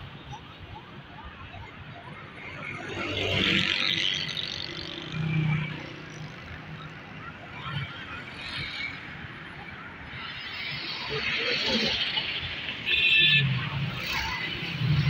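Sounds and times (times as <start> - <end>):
vehicle engines: 0.0 - 15.0.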